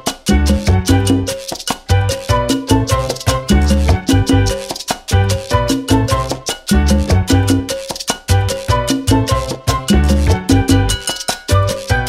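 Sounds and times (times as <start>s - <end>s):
background music with a beat: 0.0s - 12.0s.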